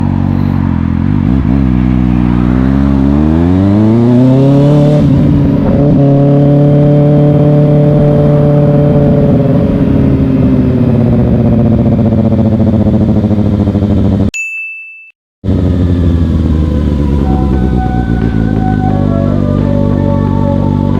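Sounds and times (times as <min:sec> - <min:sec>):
motorcycle engine accelerating: 0:00.0 - 0:14.3, 0:15.4 - 0:20.9.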